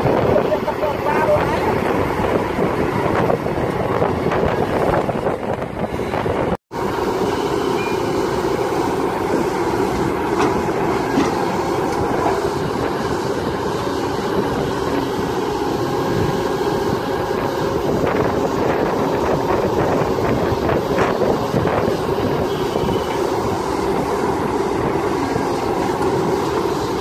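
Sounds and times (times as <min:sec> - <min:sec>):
excavator diesel engine droning: 0:00.0 - 0:27.0.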